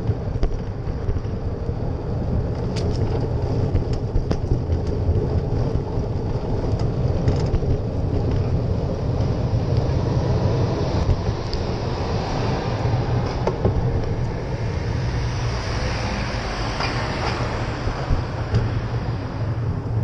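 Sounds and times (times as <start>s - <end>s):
low rumble: 0.0s - 20.0s
wind buffeting microphone: 0.0s - 20.0s.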